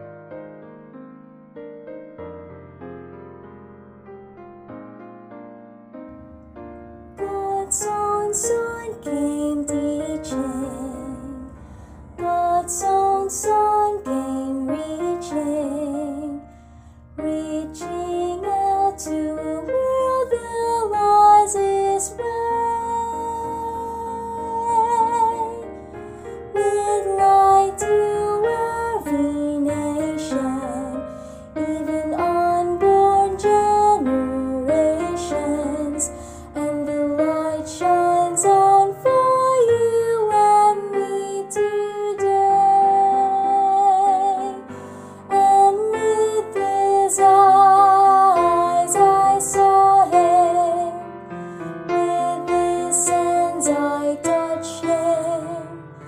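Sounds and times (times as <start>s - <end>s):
slow melody: 0.0s - 56.0s
soft sustained accompaniment: 5.4s - 56.0s
person singing with vibrato: 7.2s - 56.0s.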